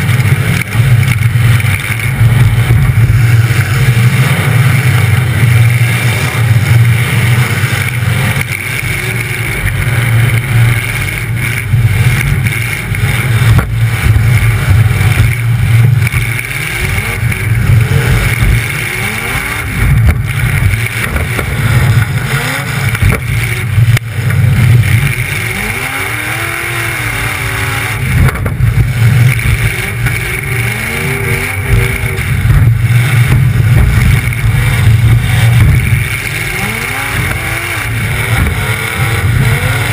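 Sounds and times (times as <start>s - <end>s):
car engine revving loudly: 0.0s - 39.9s.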